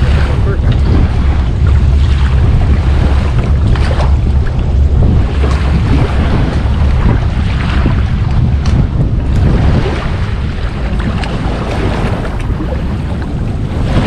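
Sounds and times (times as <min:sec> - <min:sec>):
surf washing on beach: 0:00.0 - 0:14.0
wind buffeting microphone: 0:00.0 - 0:14.0.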